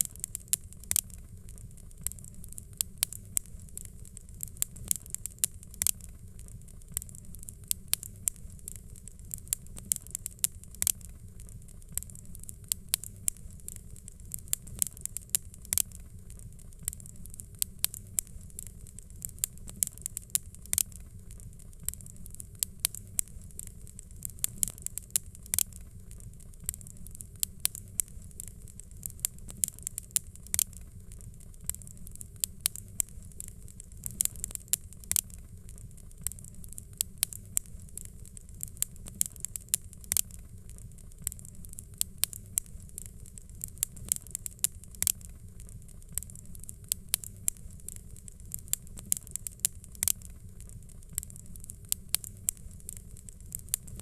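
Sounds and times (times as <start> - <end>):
fire crackling and popping: 0.0 - 54.0
soft high hiss: 0.0 - 54.0.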